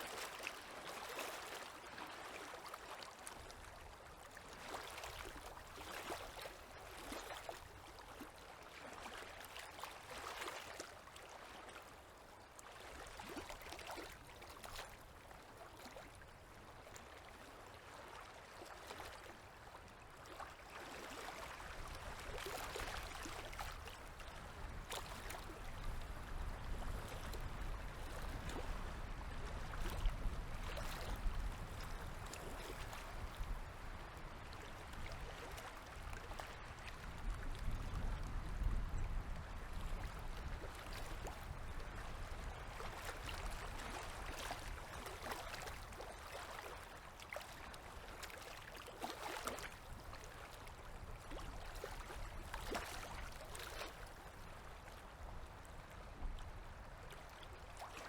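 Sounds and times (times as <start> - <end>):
river waves lapping: 0.0 - 38.3, 39.7 - 55.9.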